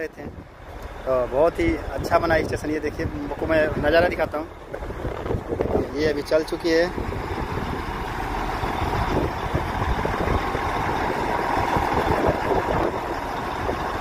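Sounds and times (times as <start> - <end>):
rail vehicle diesel engine running: 0.0 - 14.0.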